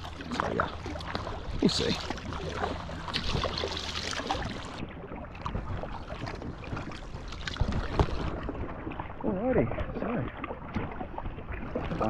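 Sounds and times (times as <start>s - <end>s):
low steady hum: 0.0s - 10.3s
paddle splashing in water: 0.0s - 12.0s.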